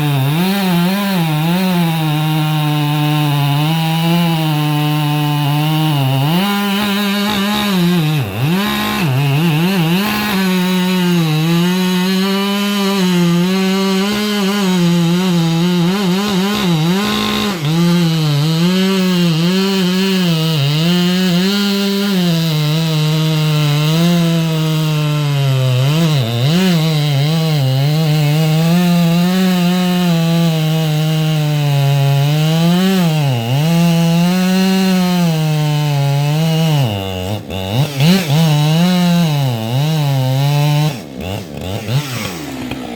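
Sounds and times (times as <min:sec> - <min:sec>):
chainsaw cutting firewood: 0:00.0 - 0:42.9.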